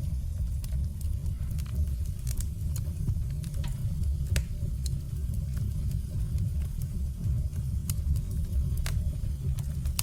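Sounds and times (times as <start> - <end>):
fire crackles and pops: 0.0 - 10.0
low rumble of flames: 0.0 - 10.0.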